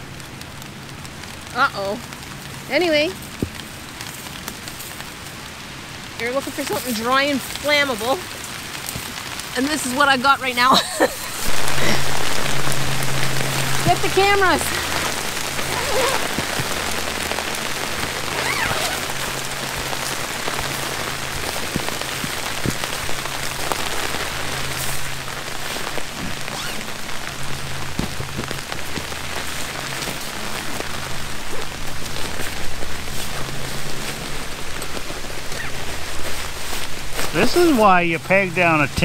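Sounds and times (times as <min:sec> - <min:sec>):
raindrops striking close by: 0:00.0 - 0:39.0
steady rain falling: 0:00.0 - 0:39.0.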